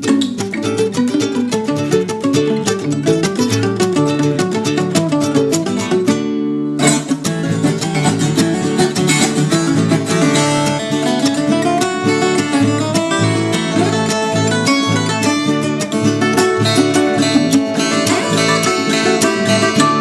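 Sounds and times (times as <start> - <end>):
plucked and strummed steel strings: 0.0 - 20.0.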